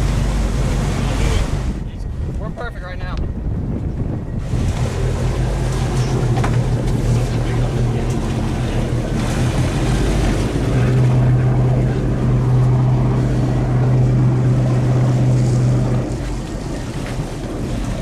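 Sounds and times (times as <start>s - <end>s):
motorboat engine hum: 0.0s - 18.0s
water noise: 0.0s - 18.0s
wind: 0.0s - 18.0s.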